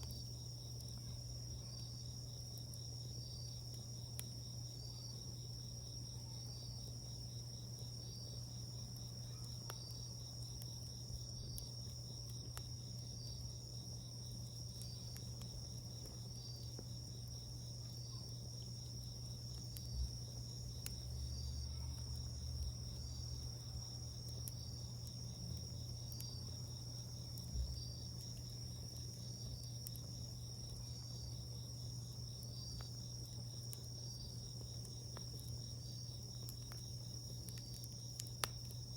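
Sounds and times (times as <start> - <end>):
campfire crackling: 0.0 - 38.9
crickets trilling: 0.0 - 38.9.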